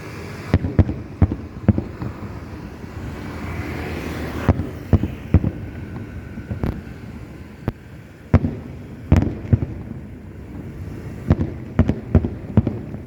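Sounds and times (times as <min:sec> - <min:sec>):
fireworks booming: 0:00.0 - 0:13.0
steady rumble: 0:00.0 - 0:13.0.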